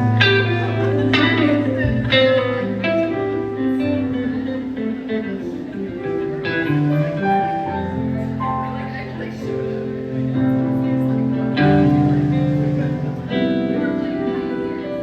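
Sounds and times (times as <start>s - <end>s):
sustained low notes: 0.0s - 14.6s
strummed guitar chords: 0.0s - 15.0s.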